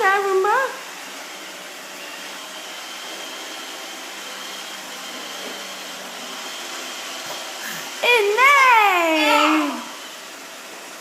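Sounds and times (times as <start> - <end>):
robot vacuum motor hum: 0.0 - 11.0.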